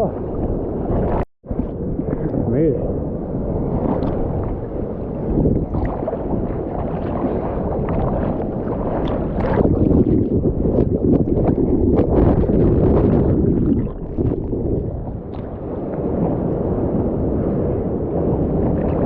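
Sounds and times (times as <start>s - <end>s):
muffled ocean water splashing: 0.0s - 19.0s.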